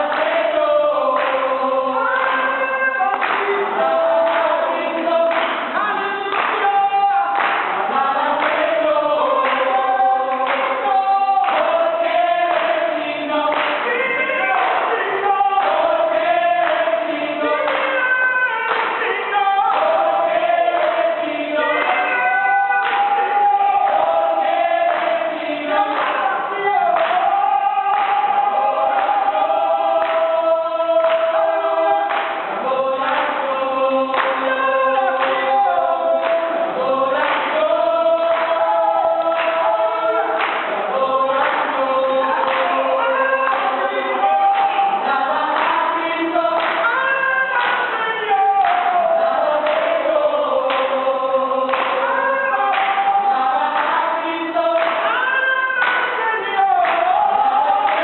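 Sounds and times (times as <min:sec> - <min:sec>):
group singing together: 0:00.0 - 0:58.0.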